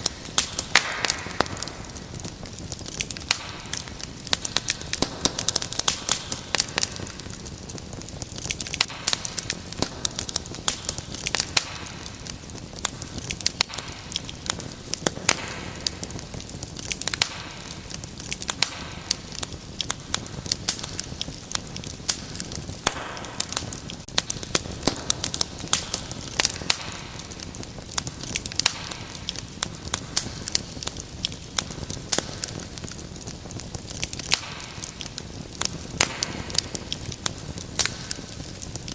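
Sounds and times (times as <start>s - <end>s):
fire popping and snapping: 0.0s - 38.9s
wood fire crackling: 0.0s - 38.9s.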